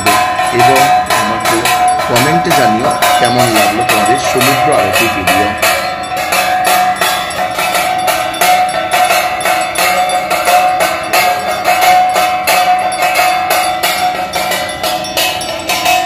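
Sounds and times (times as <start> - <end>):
brass hand bells clanging: 0.0 - 16.0
cymbals clanging: 0.0 - 16.0
steady ringing tone: 0.0 - 16.0.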